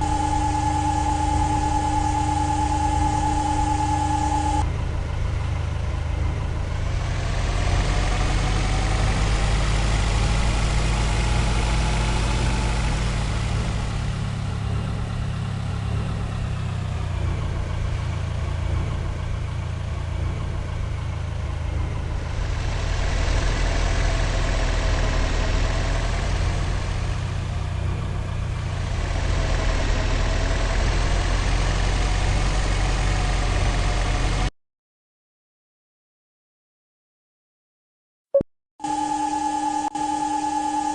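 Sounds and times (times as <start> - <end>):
heavy engine deep rumble: 0.0 - 34.5.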